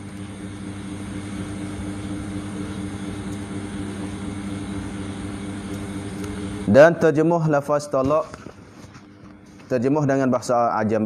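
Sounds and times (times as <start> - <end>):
machine hum with rushing noise: 0.0 - 11.0.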